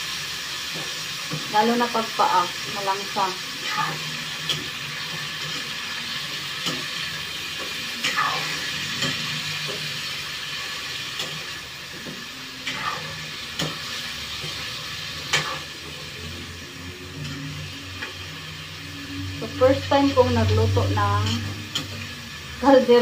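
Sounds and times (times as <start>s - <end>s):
meat sizzling in hot oil: 0.0s - 23.0s
spatula scraping a pan: 3.6s - 22.1s.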